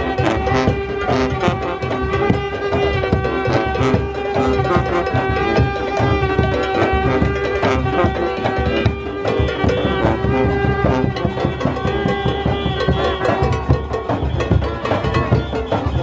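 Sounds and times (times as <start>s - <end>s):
brass horns holding long notes: 0.0s - 16.0s
hand drums beating fast rhythm: 0.0s - 16.0s.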